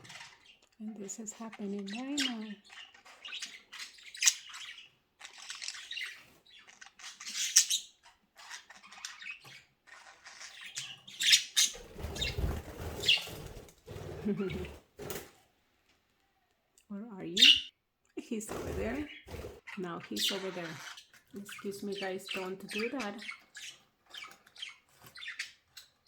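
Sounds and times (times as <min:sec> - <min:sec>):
budgerigars chirping and squawking: 0:00.0 - 0:15.2, 0:17.3 - 0:17.7, 0:18.5 - 0:26.0.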